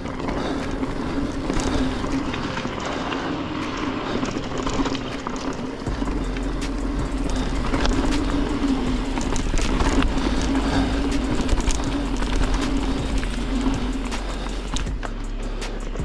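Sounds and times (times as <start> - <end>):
bike clicks and rattles: 0.0 - 16.0
bike tyres and drivetrain buzzing: 0.0 - 16.0
low wind rumble: 0.0 - 16.0.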